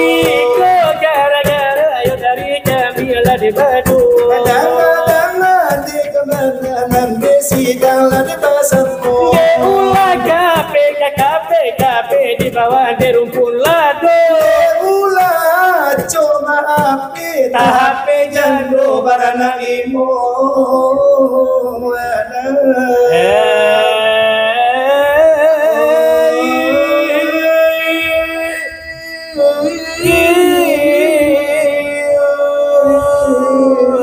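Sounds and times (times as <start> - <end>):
man singing a devotional chant: 0.0 - 34.0.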